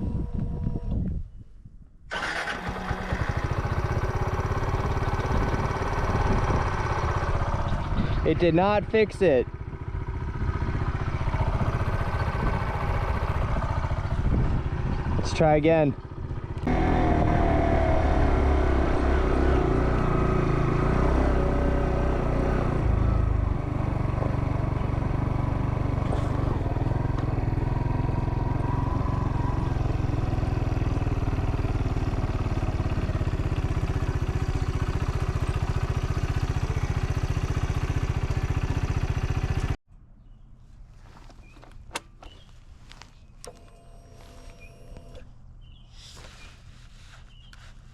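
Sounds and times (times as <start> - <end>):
vehicle engine and road noise: 2.1 - 47.9.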